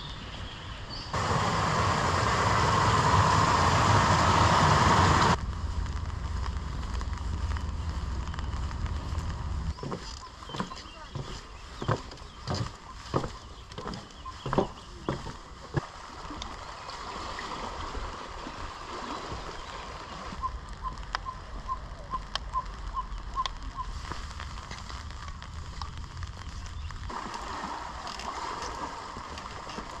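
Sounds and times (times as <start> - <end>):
waves lapping against rocks: 5.8 - 30.0.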